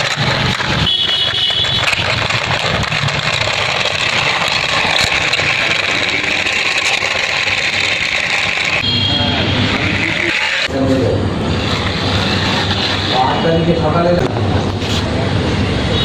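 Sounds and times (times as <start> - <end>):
vehicle running noise: 0.0 - 16.0
high whine: 0.8 - 13.8.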